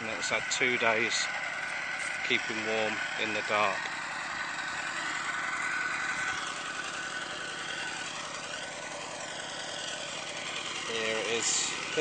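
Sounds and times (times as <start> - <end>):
distant diesel engine running: 0.0 - 12.0.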